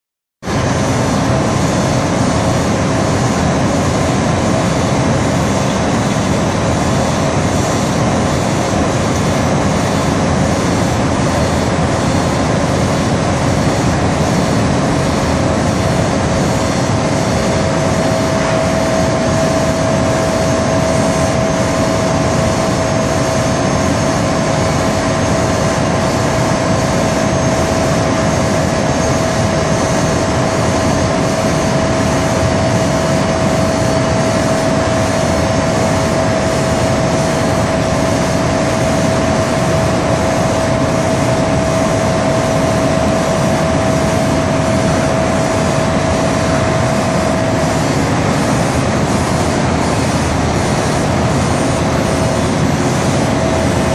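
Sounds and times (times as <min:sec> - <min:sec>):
machine whine: 0:00.5 - 0:53.9.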